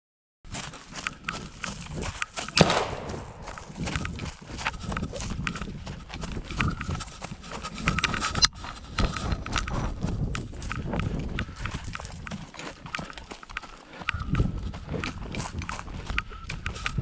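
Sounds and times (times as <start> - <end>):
footsteps through dry scrub: 0.5 - 17.0.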